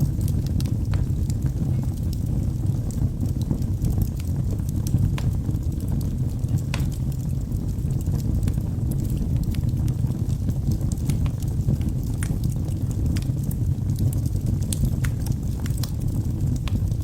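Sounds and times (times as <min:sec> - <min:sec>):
wood fire crackling in fireplace: 0:00.0 - 0:17.0.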